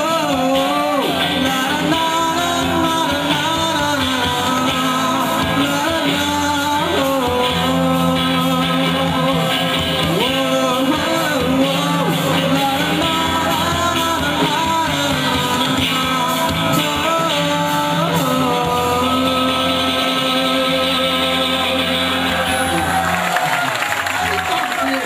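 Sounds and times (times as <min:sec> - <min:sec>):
person singing: 0:00.0 - 0:23.7
electric guitars: 0:00.0 - 0:25.0
live rock band playing: 0:00.0 - 0:25.0.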